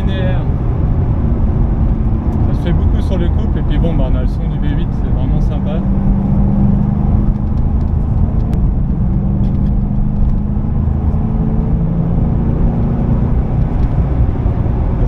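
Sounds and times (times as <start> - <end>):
car engine pulling steadily: 0.0 - 15.0.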